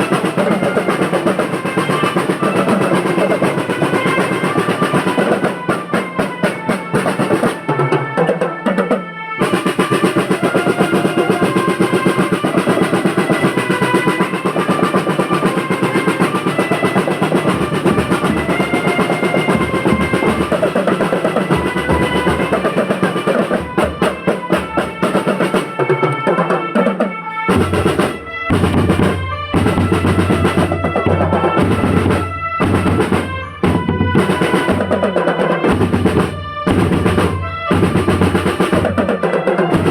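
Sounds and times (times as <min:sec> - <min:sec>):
marching band melody: 0:00.0 - 0:39.9
snare drum rolls: 0:00.0 - 0:39.9.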